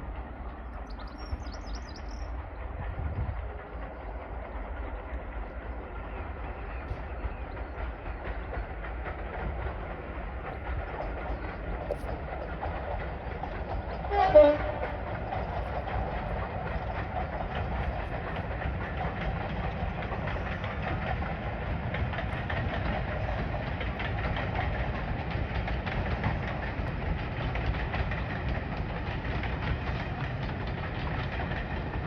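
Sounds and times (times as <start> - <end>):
diesel locomotive engine rumbling: 0.0 - 32.0
rail noise: 0.0 - 32.0.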